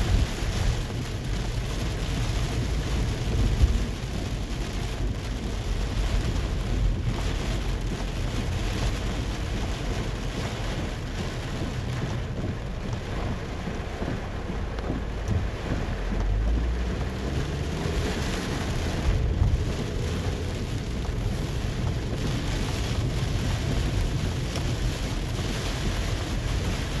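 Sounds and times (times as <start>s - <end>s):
heavy rain on car roof: 0.0s - 27.0s
low rumble: 0.0s - 27.0s.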